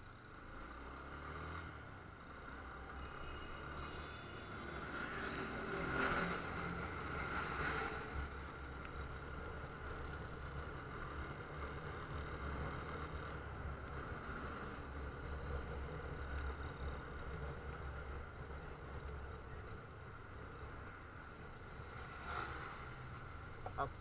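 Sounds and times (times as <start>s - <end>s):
road and wind noise: 0.0s - 24.0s.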